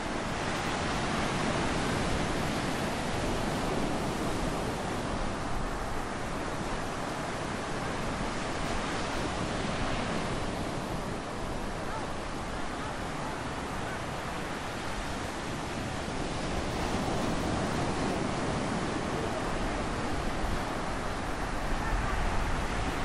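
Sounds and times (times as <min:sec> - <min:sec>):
ocean waves breaking: 0:00.0 - 0:23.0
wind on microphone: 0:00.0 - 0:23.0.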